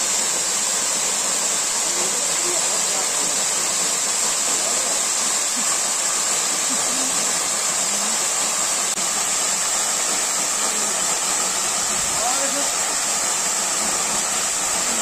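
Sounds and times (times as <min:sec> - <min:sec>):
waterfall splashing onto stones: 0:00.0 - 0:15.0.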